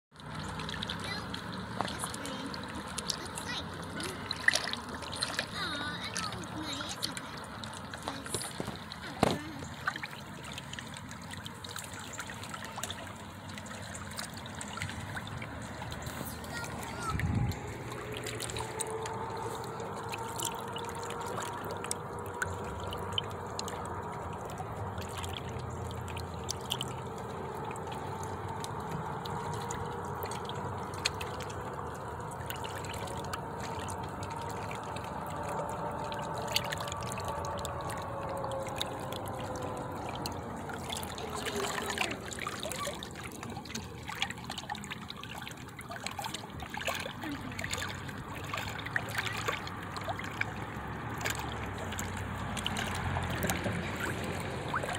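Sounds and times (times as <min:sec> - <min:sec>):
water lapping and trickling: 0:00.1 - 0:54.9.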